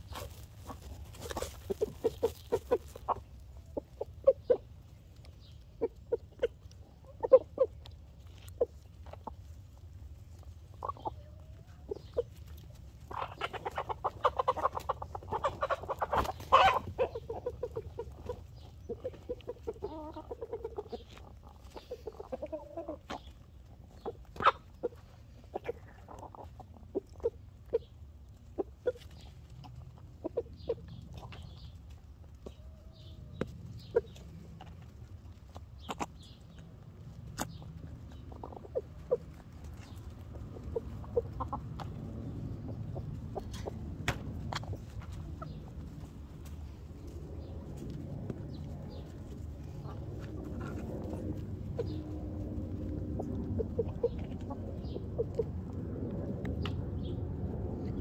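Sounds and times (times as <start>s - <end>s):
beaks tapping food and ground: 0.0s - 57.2s
chickens clucking: 0.0s - 58.0s.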